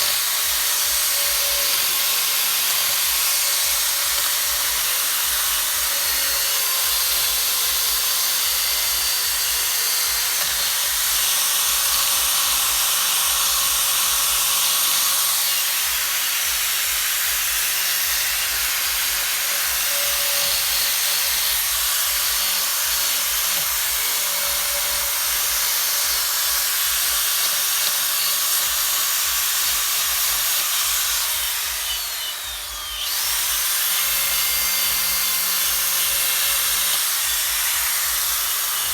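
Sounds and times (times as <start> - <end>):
rotary tool sanding wood: 0.0 - 38.9.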